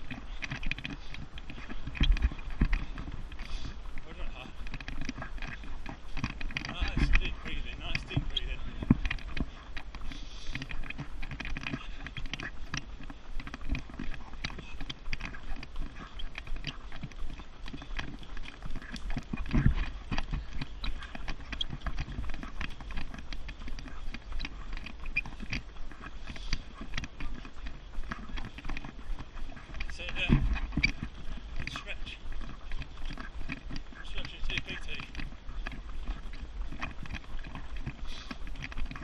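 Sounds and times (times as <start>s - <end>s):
running footsteps on pavement: 0.0s - 39.0s.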